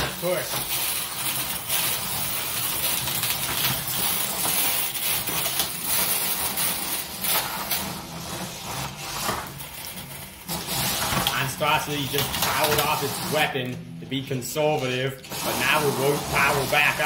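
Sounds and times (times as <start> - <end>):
toy robot motors whirring: 0.0 - 17.0.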